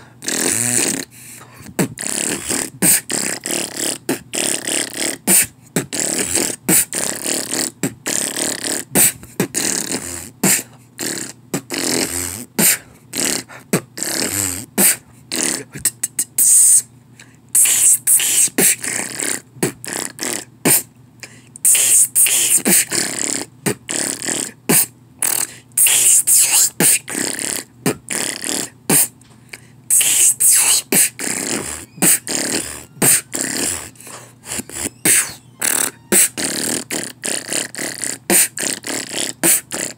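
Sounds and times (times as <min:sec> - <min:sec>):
person beatboxing: 0:00.0 - 0:39.9.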